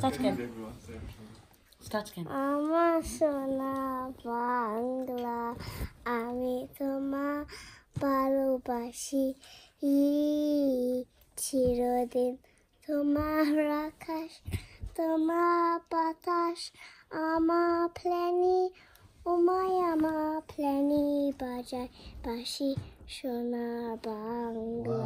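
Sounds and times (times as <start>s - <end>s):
child singing: 2.2s - 25.0s.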